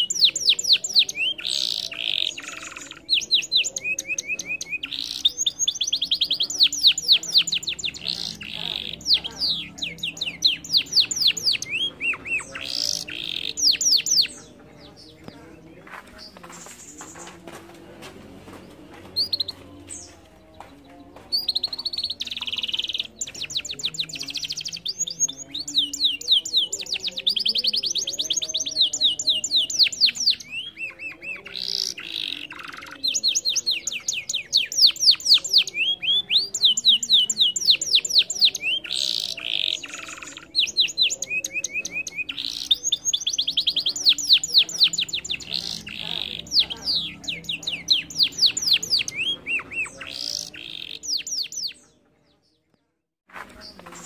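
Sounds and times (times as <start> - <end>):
canary singing trills: 0.0 - 17.6, 18.5 - 53.0.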